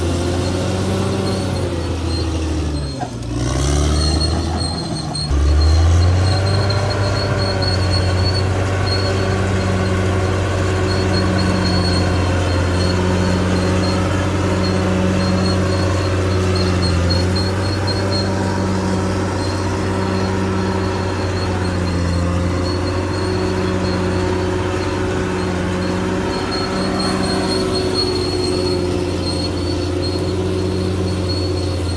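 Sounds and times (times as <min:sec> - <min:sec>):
bulldozer diesel engine droning: 0:00.0 - 0:31.9
steel tracks squealing: 0:00.0 - 0:31.9
rhythmic undercarriage pulsing: 0:04.0 - 0:31.9.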